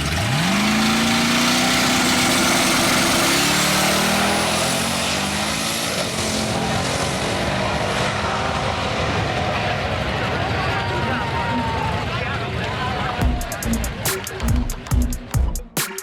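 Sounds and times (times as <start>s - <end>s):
race car engine at full throttle: 0.0s - 14.6s.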